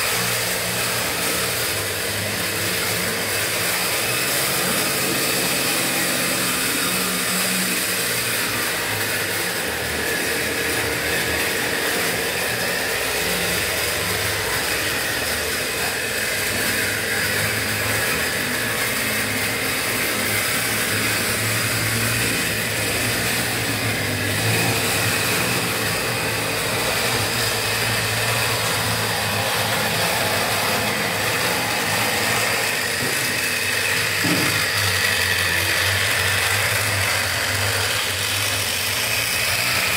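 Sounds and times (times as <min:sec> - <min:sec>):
model train motor humming: 0:00.0 - 0:39.9
wheels on the track: 0:00.0 - 0:39.9.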